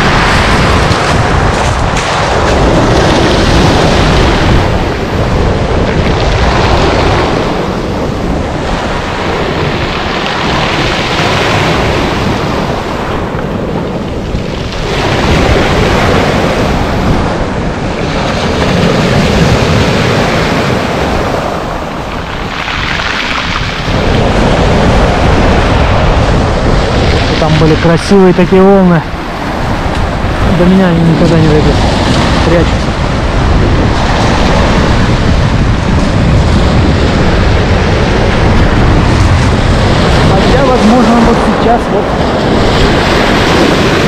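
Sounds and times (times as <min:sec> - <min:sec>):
waves breaking on pebbles: 0:00.0 - 0:44.0
wind buffeting microphone: 0:00.0 - 0:44.0.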